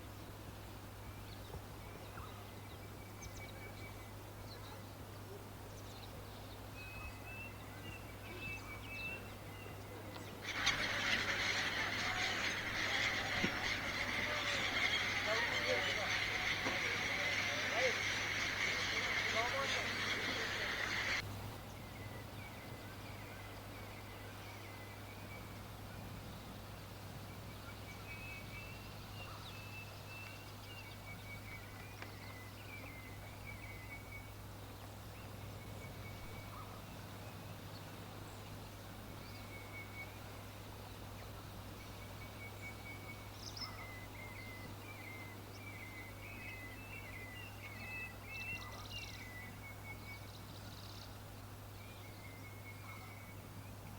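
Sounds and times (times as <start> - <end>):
faint birdsong chirping: 0.0 - 53.9.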